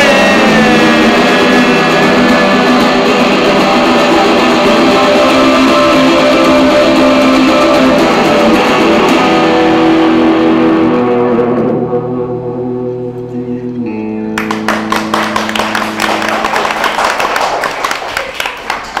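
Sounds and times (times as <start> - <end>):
electric guitar chords ringing: 0.0 - 17.2.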